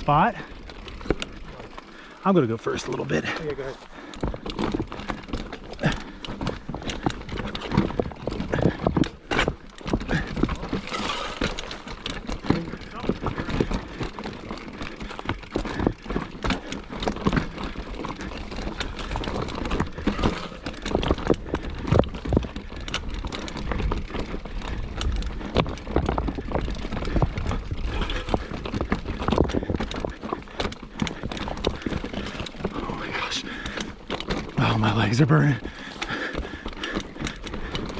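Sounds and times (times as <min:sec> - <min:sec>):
bike rattling and knocking: 0:00.0 - 0:37.9.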